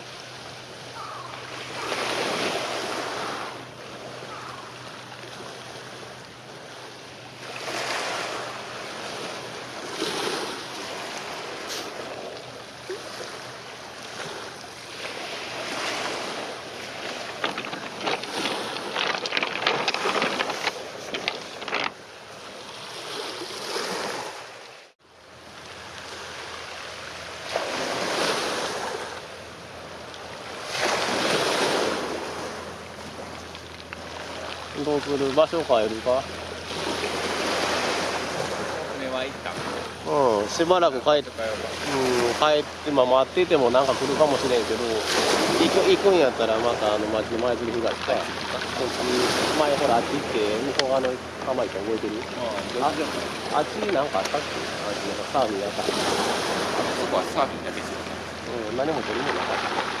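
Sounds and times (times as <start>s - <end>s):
waves washing on shore: 0.0s - 60.0s.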